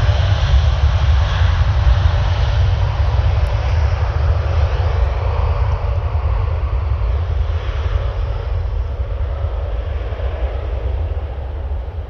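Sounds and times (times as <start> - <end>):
jet engines at takeoff thrust: 0.0 - 12.0.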